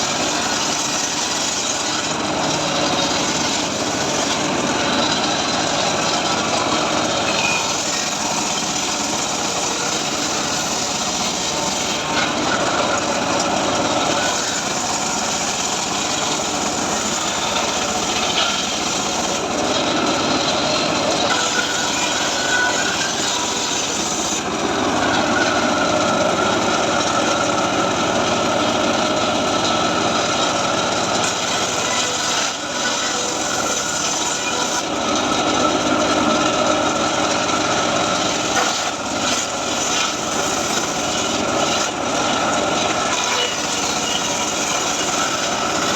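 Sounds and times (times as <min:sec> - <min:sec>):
circular saw cutting wood: 0:00.0 - 0:45.9.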